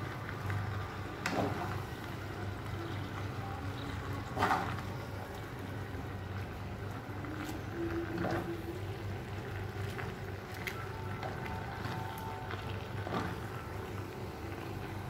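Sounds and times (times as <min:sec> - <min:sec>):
stew simmering in a pan: 0:00.0 - 0:15.0.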